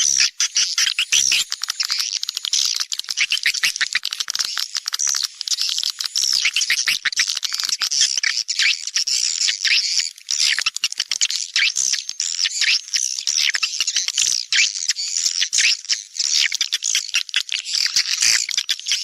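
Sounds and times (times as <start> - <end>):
swiftlets twittering and clicking: 0.0 - 19.0.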